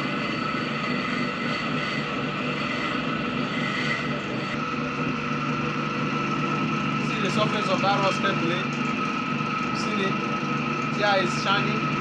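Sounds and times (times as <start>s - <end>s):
sharpening machine whirring drone: 0.0s - 12.0s.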